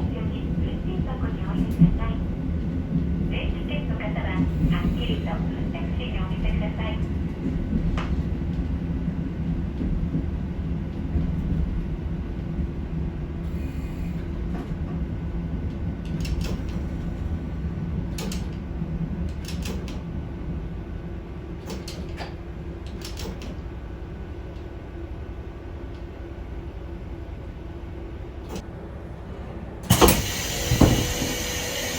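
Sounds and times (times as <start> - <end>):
diesel railcar engine droning: 0.0 - 31.9.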